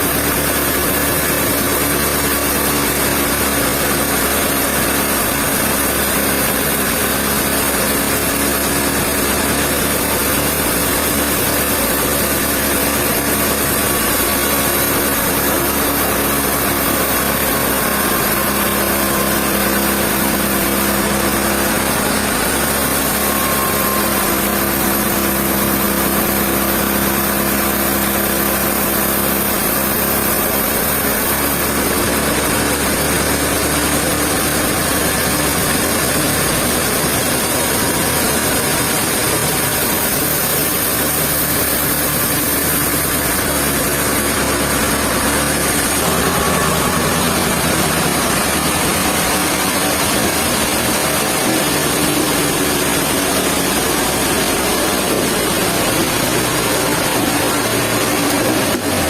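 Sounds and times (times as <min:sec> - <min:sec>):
sawmill machinery motor drone: 0:00.0 - 0:59.0.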